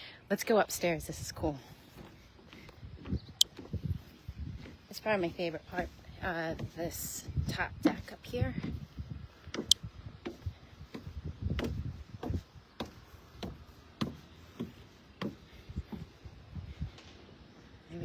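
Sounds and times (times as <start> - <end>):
footsteps on wooden stairs: 1.6 - 16.4.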